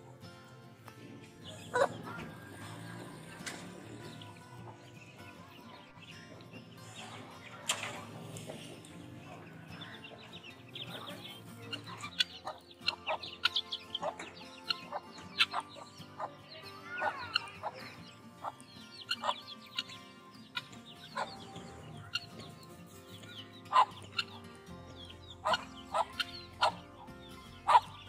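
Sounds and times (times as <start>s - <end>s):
hens clucking: 0.0s - 28.0s
chicks peeping: 0.9s - 28.0s.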